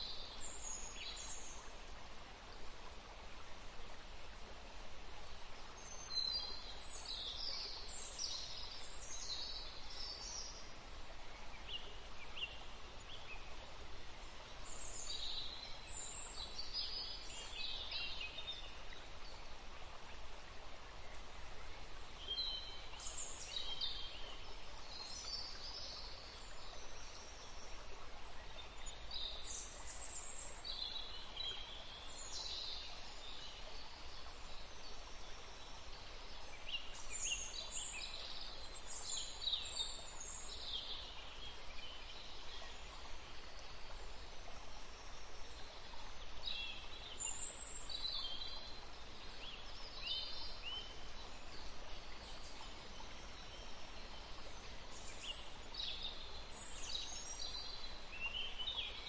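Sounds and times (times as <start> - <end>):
faint background hiss: 0.0 - 59.0.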